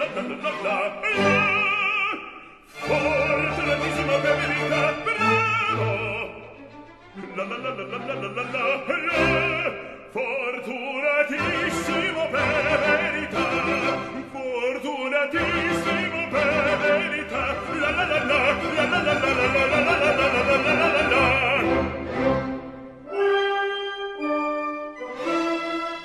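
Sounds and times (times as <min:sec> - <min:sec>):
operatic voice singing: 0:00.0 - 0:22.7
orchestral accompaniment: 0:00.0 - 0:26.0.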